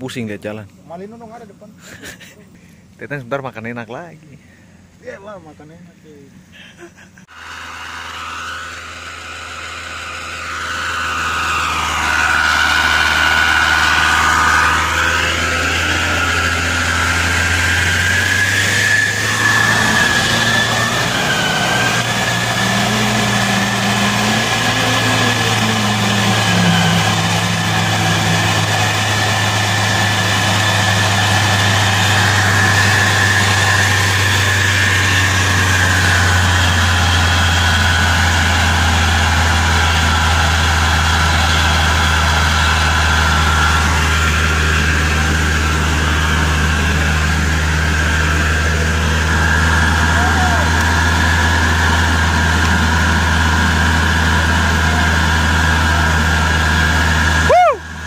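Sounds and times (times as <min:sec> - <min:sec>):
truck engine idling: 0:04.0 - 0:58.0.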